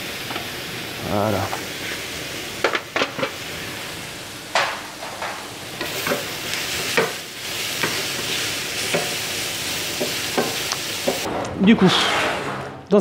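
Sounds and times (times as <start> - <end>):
food sizzling in a frying pan: 0.0 - 11.3.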